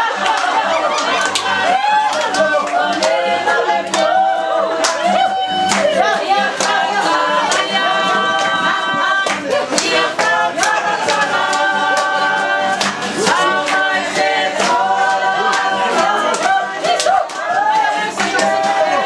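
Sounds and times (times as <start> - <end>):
group singing long notes: 0.0 - 19.0.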